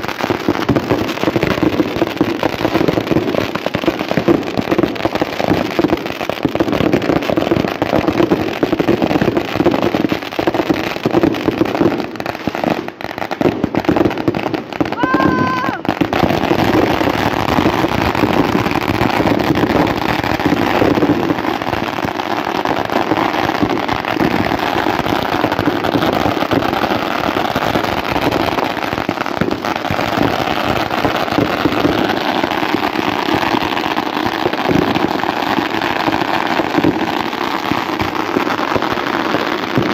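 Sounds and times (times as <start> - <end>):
firework fountains hissing and crackling: 0.0 - 39.9
firework pops and bangs: 0.0 - 39.9.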